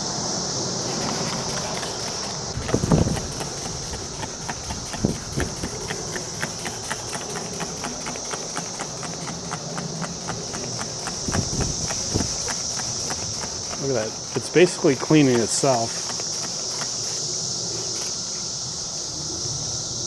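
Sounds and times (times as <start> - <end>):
handling knocks: 0.8 - 17.2
liquid spraying: 0.8 - 18.2
spray bottle trigger clicking: 0.8 - 18.2.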